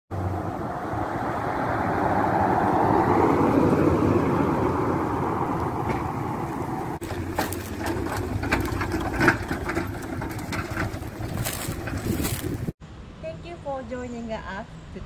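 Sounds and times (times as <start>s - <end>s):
vehicle driving past: 0.1s - 12.5s
tyre and engine noise: 0.1s - 12.8s.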